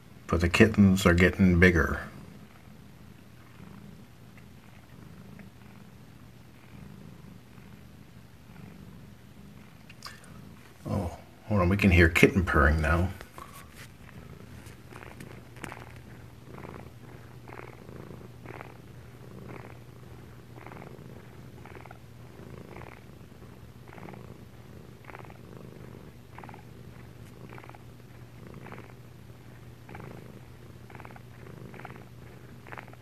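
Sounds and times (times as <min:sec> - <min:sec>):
cats purring: 0:00.0 - 0:33.0.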